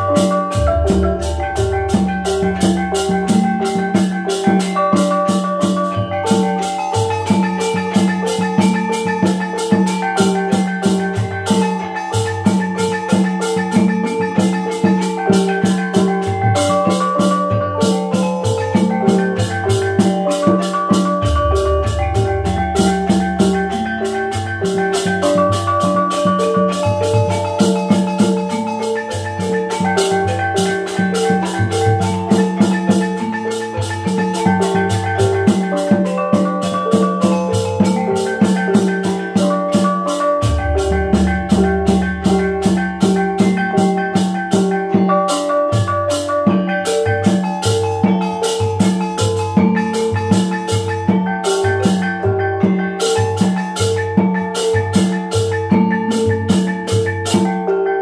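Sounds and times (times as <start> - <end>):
hand drum: 0.0 - 58.0.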